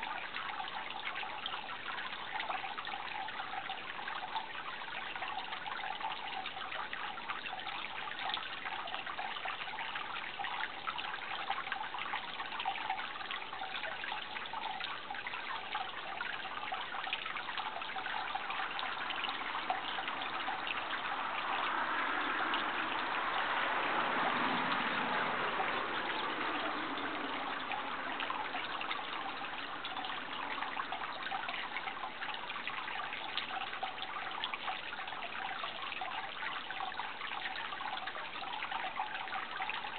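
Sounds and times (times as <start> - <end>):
water rushing: 0.0 - 39.9
water trickling and gurgling: 0.0 - 39.9.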